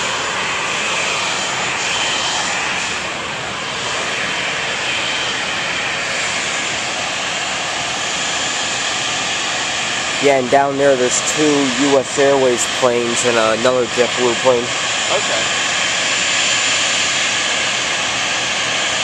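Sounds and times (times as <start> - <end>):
jet turbine running: 0.0 - 19.0.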